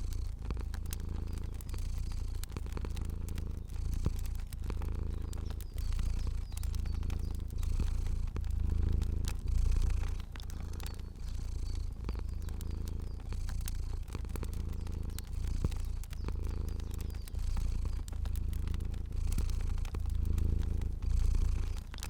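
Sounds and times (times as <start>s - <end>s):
cat purring: 0.0s - 22.0s
fire popping and crackling: 0.0s - 22.0s.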